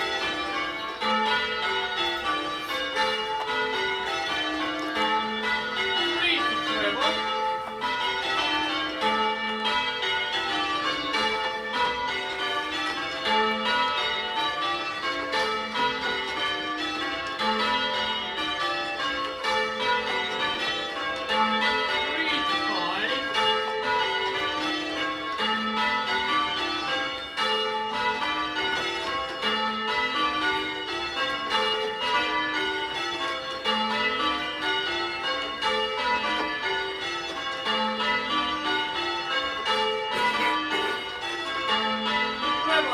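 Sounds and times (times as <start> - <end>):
church bells change-ringing: 0.0 - 42.9.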